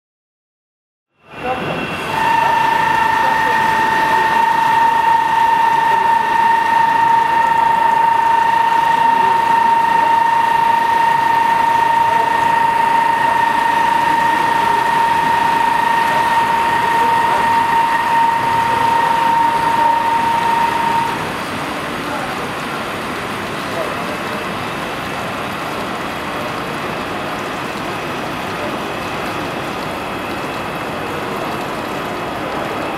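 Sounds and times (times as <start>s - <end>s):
machine drilling metal whine: 1.3s - 32.9s.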